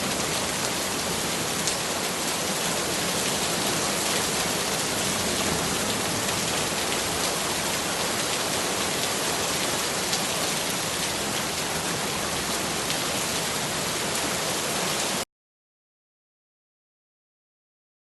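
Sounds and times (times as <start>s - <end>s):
steady rain falling: 0.0s - 15.2s.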